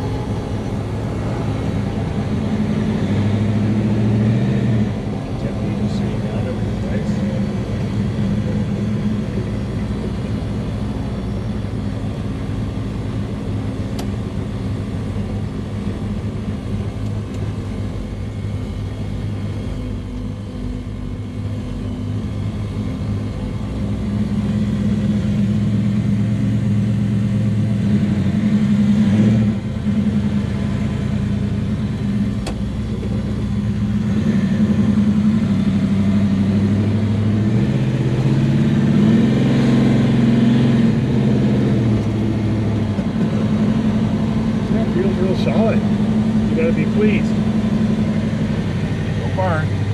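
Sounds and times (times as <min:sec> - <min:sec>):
car engine droning inside car: 0:00.0 - 0:49.9.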